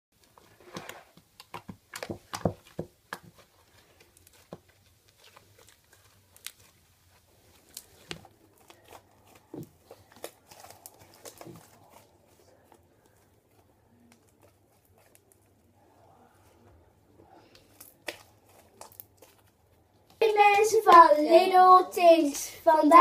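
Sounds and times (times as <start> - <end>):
slime squeezed crackling: 0.7 - 22.2.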